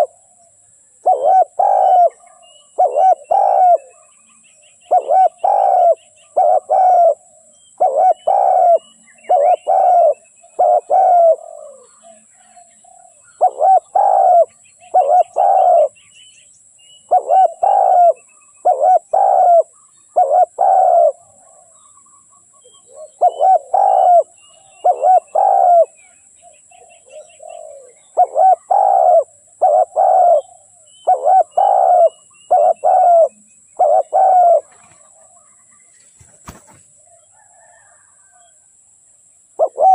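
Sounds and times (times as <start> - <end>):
dove cooing: 0.0 - 0.2, 1.0 - 4.2, 4.8 - 16.0, 17.0 - 21.9, 22.5 - 26.0, 26.7 - 35.6, 36.2 - 38.6, 39.6 - 39.9
small birds chirping: 0.0 - 38.6.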